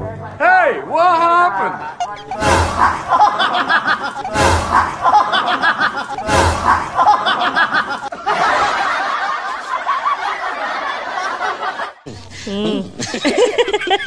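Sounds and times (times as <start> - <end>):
canned laughter: 2.0 - 14.0
dull laughter: 2.1 - 14.0.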